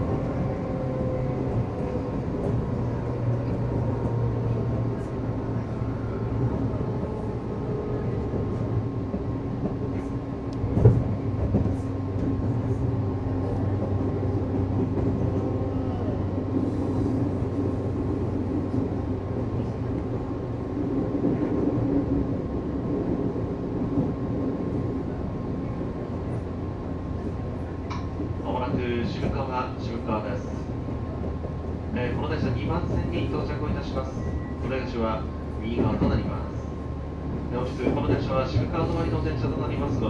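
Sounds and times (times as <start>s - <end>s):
train wheels on rail: 0.0s - 40.0s.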